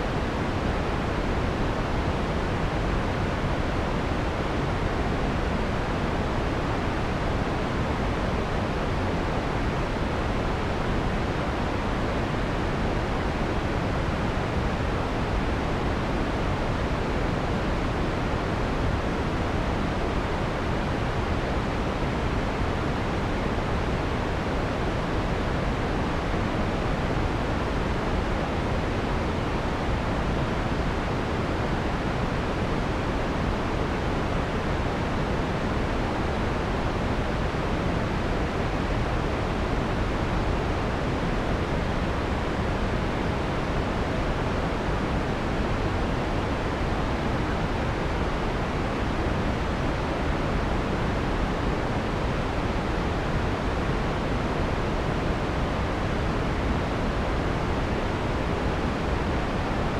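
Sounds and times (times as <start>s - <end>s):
filtered white noise hiss: 0.0s - 59.9s.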